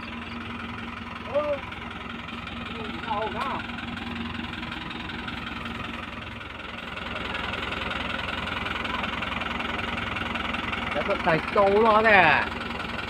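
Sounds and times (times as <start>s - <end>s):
tractor engines idling: 0.0s - 13.0s.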